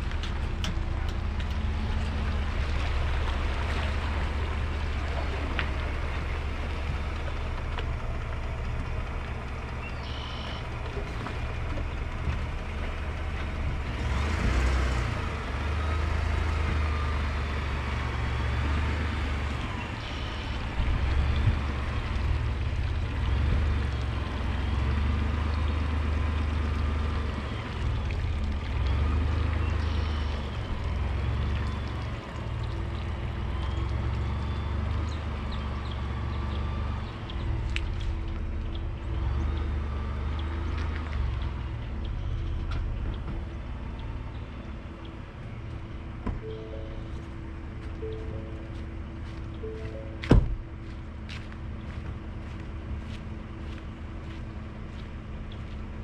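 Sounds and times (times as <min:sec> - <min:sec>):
vehicle engine drone: 0:00.0 - 0:56.0.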